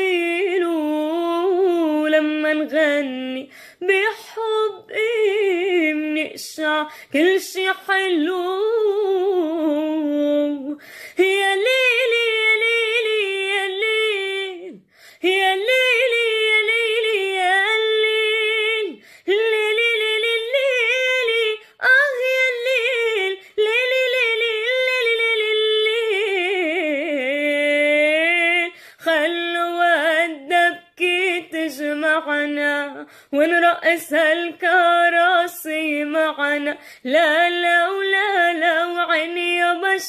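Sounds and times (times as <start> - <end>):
woman singing a cappella: 0.0 - 40.0.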